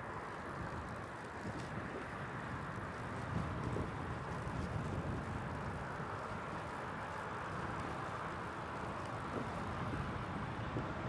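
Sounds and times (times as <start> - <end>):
road noise hiss: 0.0 - 11.0
wind buffeting microphone: 0.0 - 11.0.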